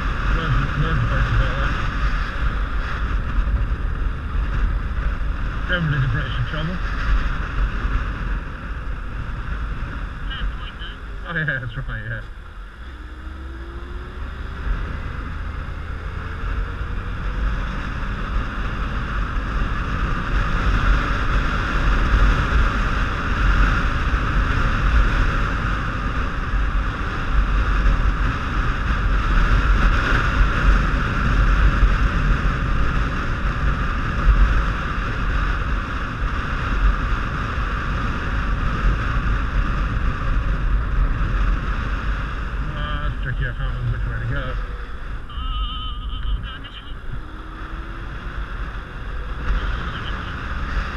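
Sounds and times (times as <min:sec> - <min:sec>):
motorcycle engine and road rumble: 0:00.0 - 0:50.9
wind rushing on microphone: 0:00.0 - 0:50.9.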